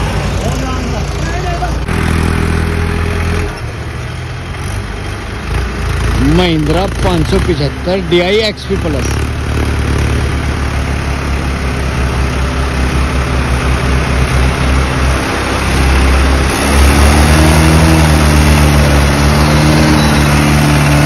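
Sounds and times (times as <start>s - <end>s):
tractor diesel engine throbbing: 0.0s - 21.0s.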